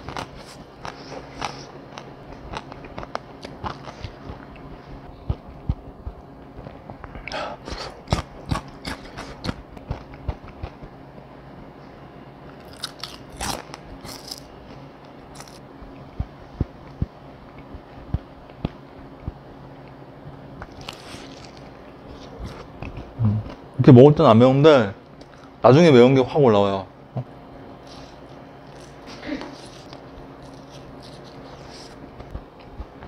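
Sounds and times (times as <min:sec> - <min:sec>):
crunchy chewing of fried food: 0:00.0 - 0:10.9, 0:12.5 - 0:23.7, 0:27.8 - 0:33.0.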